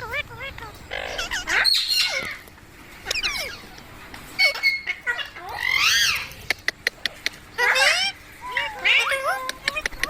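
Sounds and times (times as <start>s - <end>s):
parrot squawking: 0.0s - 2.4s, 3.0s - 3.8s, 4.4s - 10.0s.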